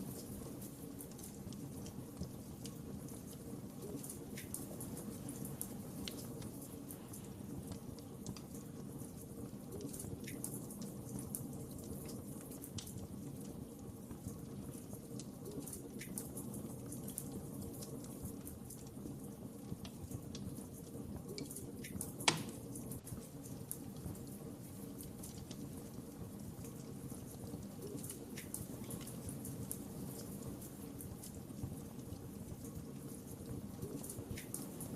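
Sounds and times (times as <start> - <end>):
fire popping: 0.0 - 34.9
wood fire crackling: 0.0 - 34.9.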